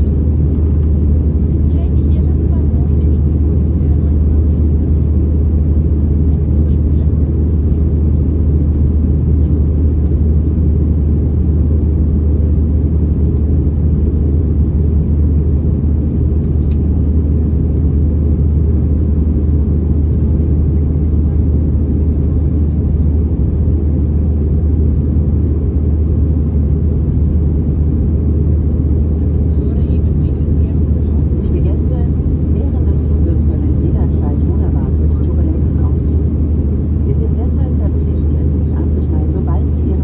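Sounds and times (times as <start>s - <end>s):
airplane cabin roar: 0.0s - 40.0s.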